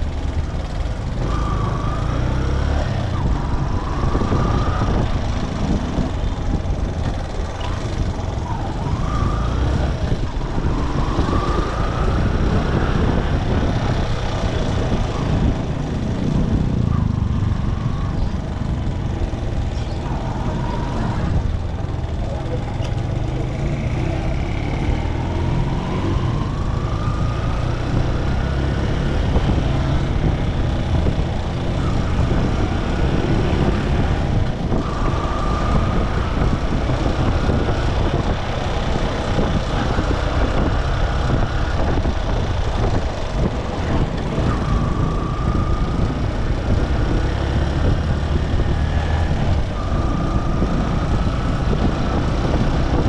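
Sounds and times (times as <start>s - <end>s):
motorcycle engine running: 0.0s - 53.0s
passing traffic: 0.0s - 53.0s
road and wind rumble: 0.0s - 53.0s.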